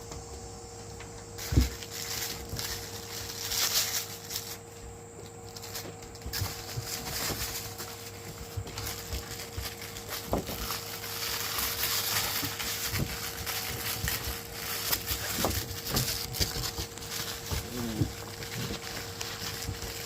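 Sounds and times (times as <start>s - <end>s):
puppies scuffling and rustling: 0.0s - 20.0s.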